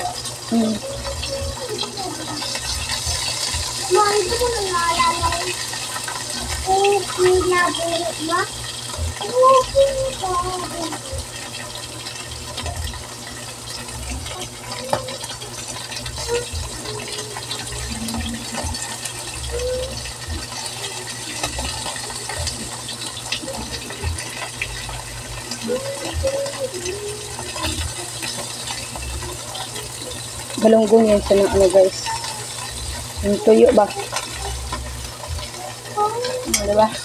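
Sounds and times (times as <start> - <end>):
fish sizzling in oil: 0.0 - 37.0.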